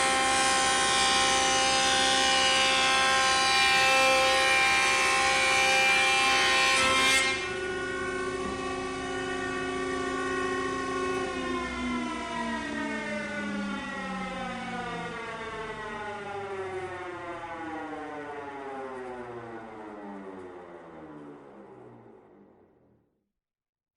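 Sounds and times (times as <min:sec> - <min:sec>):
power planer motor winding down: 0:00.0 - 0:22.4.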